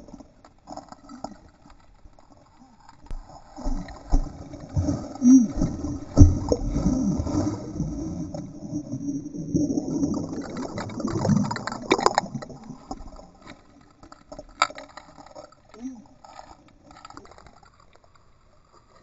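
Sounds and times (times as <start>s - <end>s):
muffled gurgling and sloshing: 0.0s - 19.0s.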